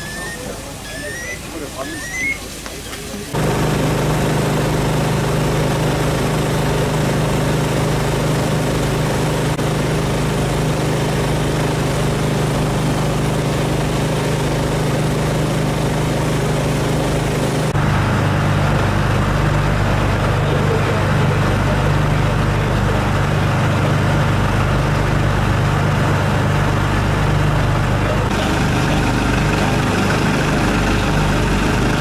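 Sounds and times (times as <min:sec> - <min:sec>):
engine droning steadily: 0:03.1 - 0:32.0.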